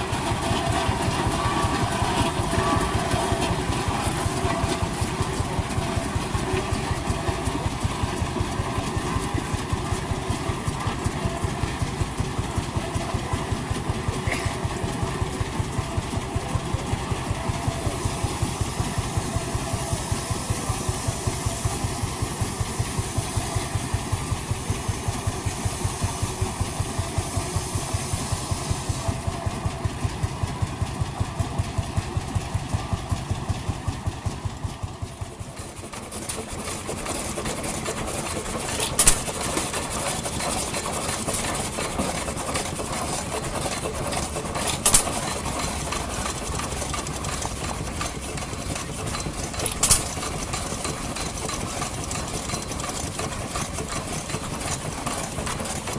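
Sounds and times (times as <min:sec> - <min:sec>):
engine running fast and busy: 0:00.0 - 0:55.9
vintage engine steady beat: 0:00.0 - 0:55.9.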